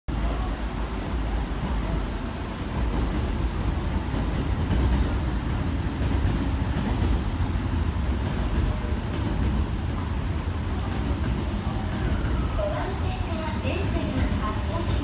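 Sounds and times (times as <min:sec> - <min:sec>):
heavy rain falling: 0:00.1 - 0:15.0.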